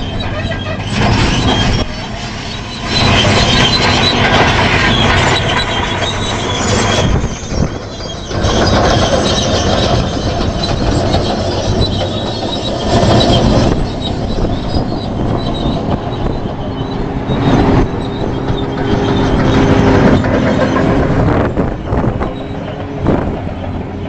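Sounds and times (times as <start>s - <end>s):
diesel engine running: 0.0s - 24.0s
steel tracks squealing: 0.0s - 24.0s.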